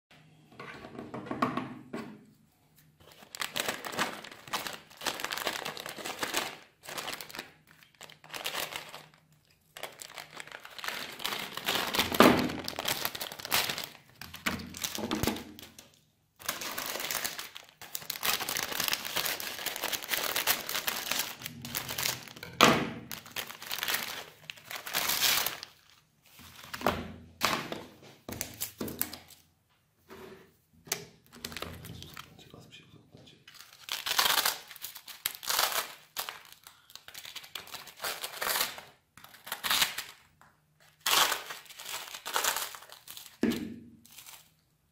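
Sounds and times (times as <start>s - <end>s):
plastic wrapper rustling: 2.8s - 26.8s, 31.2s - 32.4s, 33.5s - 44.8s.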